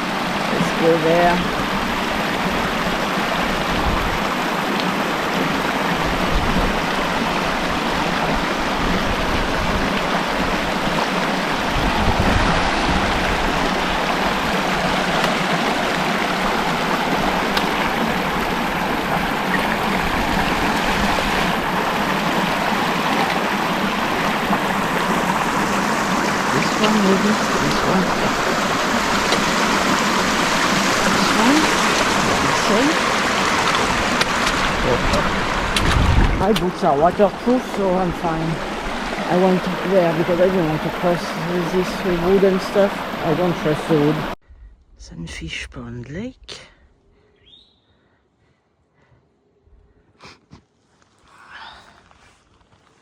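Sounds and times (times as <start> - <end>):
creek rushing over rocks: 0.0 - 44.4.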